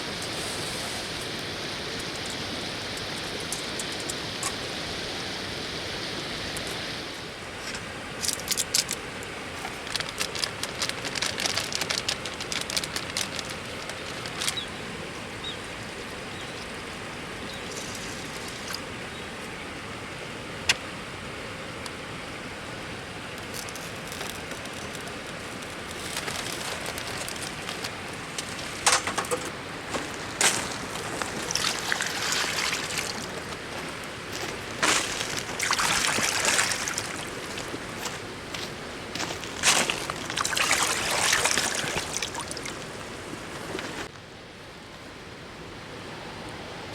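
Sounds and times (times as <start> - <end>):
river water flowing: 0.0 - 46.9.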